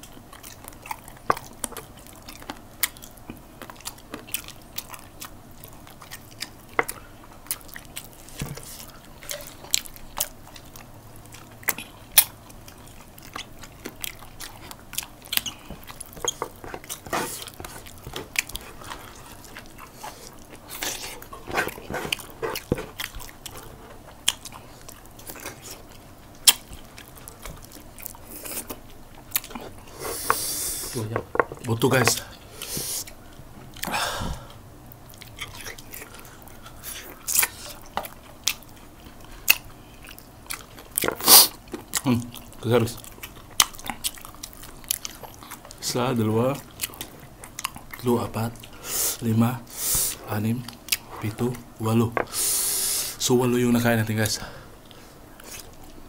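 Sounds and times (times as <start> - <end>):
people chewing and mouth smacks: 0.0 - 56.0.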